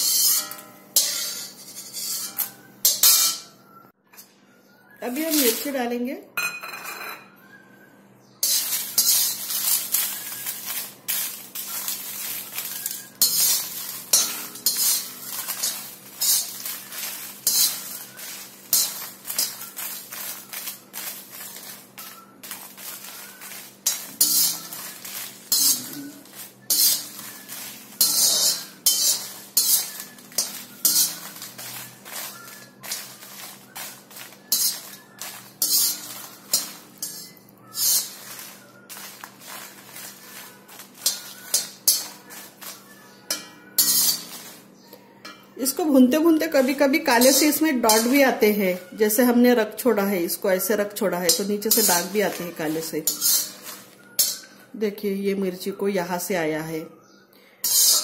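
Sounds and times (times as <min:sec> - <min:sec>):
metal spoon scraping an iron pan: 0:00.0 - 0:04.3, 0:05.1 - 0:05.8, 0:08.4 - 0:49.4, 0:50.5 - 0:54.7, 0:57.6 - 0:58.0.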